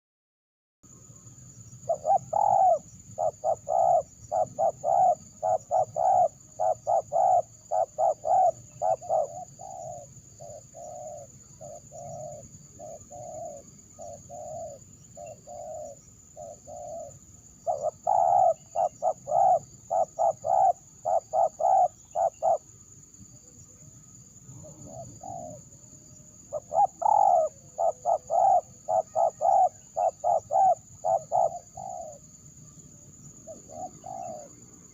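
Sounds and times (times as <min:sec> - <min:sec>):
dove cooing: 0:01.9 - 0:22.6, 0:24.6 - 0:25.7, 0:26.5 - 0:32.3, 0:33.5 - 0:34.6.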